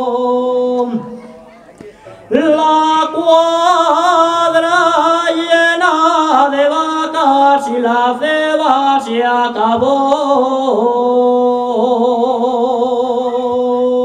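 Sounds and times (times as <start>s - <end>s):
man singing unaccompanied: 0.0s - 1.3s, 2.3s - 14.0s.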